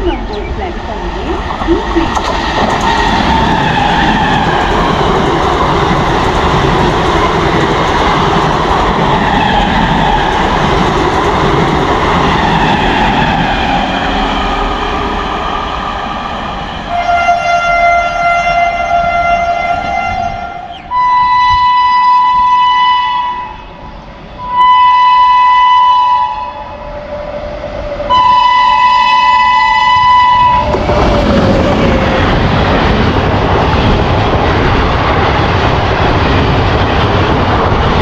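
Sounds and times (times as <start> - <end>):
train passing at speed: 0.0 - 38.0.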